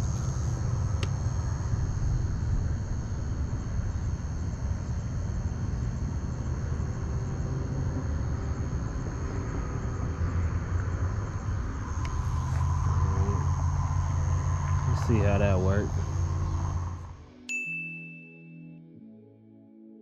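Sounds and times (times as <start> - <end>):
low rumble of night ambience: 0.0 - 17.3
crickets chirping drone: 0.0 - 17.5.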